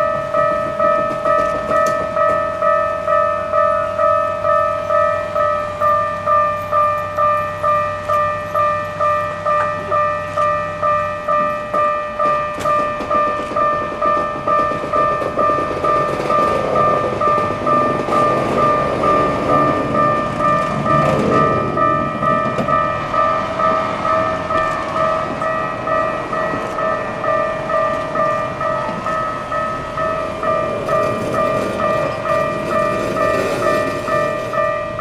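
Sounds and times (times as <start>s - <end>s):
level crossing alarm dinging: 0.0s - 35.0s
train rumble: 0.0s - 35.0s.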